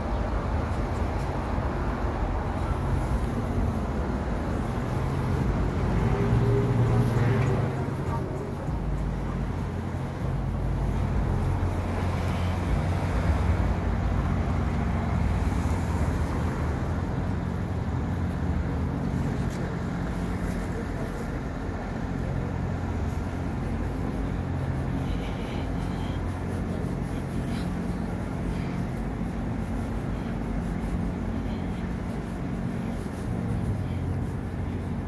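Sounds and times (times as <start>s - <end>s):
engine hum: 0.0s - 35.0s
traffic rumble: 0.0s - 35.0s.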